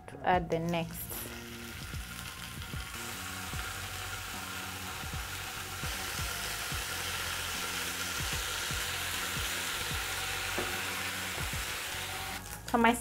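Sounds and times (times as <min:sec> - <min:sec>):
background music: 0:00.0 - 0:13.0
bacon sizzling in a pan: 0:00.8 - 0:13.0.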